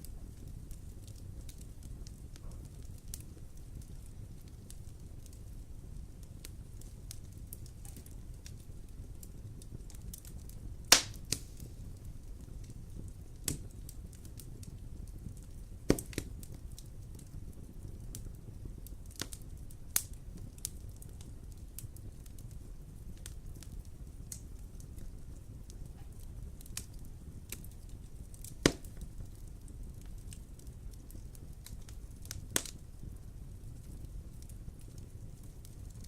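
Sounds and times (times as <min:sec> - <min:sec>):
sharp pops of burning wood: 0:00.0 - 0:36.0
wood fire crackling: 0:00.0 - 0:36.0.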